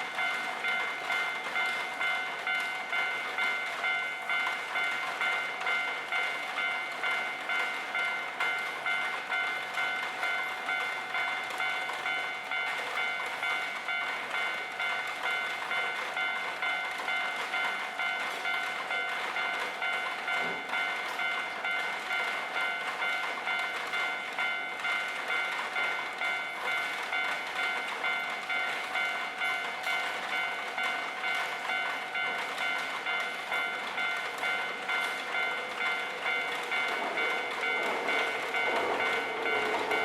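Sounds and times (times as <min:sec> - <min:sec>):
level crossing alarm bell ringing: 0:00.0 - 0:40.0.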